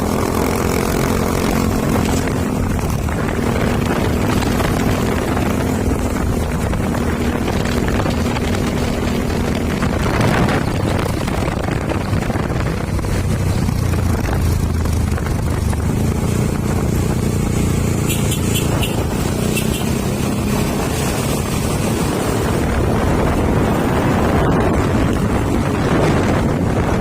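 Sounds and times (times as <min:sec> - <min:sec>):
road and traffic noise: 0:00.0 - 0:27.0.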